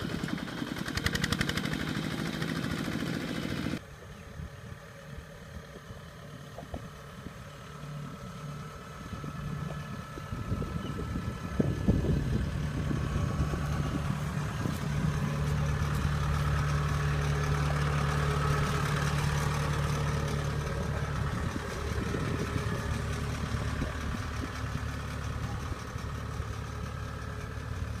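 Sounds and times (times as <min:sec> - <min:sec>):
harvester engine humming: 0:00.0 - 0:28.0.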